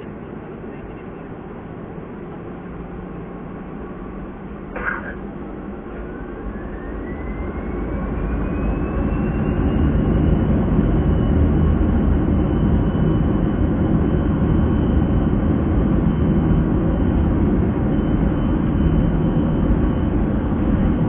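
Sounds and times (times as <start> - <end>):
deep engine rumble: 0.0 - 21.0
jet engine whine: 0.0 - 21.0.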